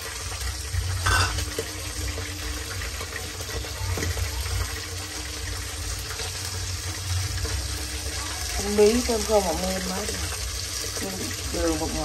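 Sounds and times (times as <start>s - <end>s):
soup bubbling in a pot: 0.0s - 12.0s.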